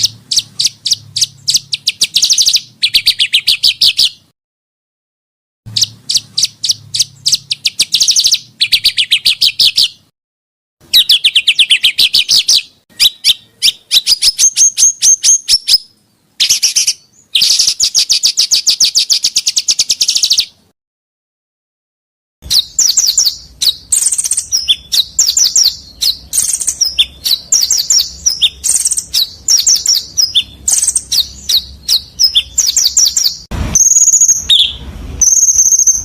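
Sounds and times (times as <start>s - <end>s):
songbirds chattering calls: 0.0s - 4.3s, 5.7s - 10.1s, 10.9s - 20.6s, 22.4s - 36.0s.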